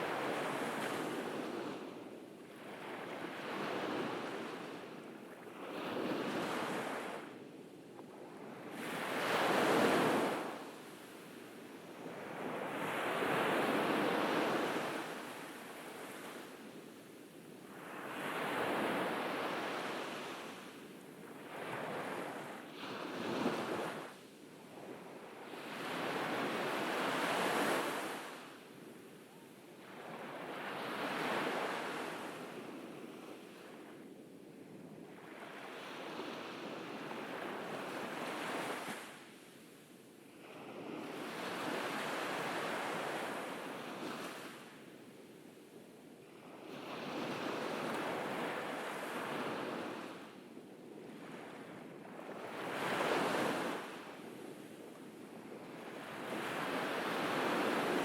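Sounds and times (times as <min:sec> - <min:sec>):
ocean waves breaking on beach: 0:00.0 - 0:07.4, 0:08.2 - 0:34.2, 0:35.0 - 0:45.1, 0:45.8 - 0:50.4, 0:51.0 - 0:58.0.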